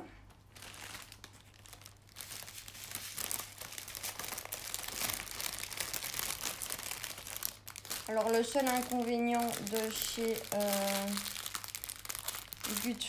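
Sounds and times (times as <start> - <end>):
plastic packaging crinkling: 0.3 - 13.0.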